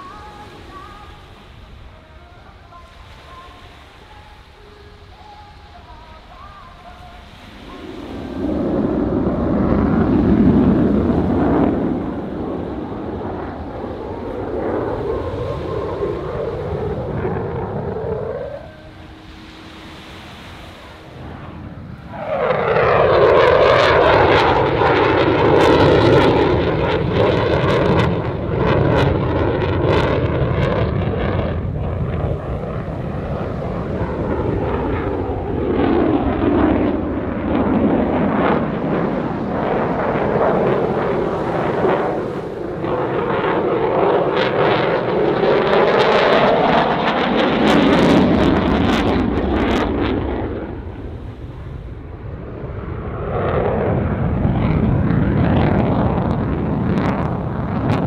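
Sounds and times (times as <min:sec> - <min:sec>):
jet engines in afterburner: 0:00.0 - 0:58.0.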